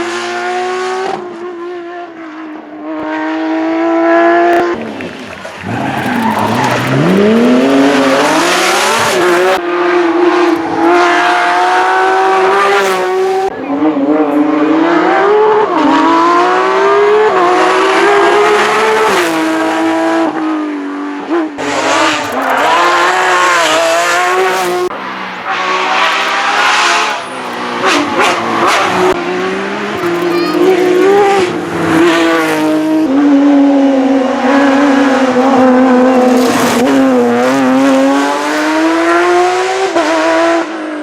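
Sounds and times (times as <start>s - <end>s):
sports car engine at high revs: 6.2s - 41.0s.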